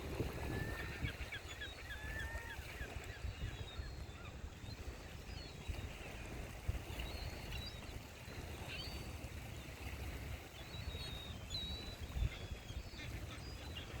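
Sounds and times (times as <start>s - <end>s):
surf rumble: 0.0s - 14.0s
wind on microphone: 0.0s - 14.0s.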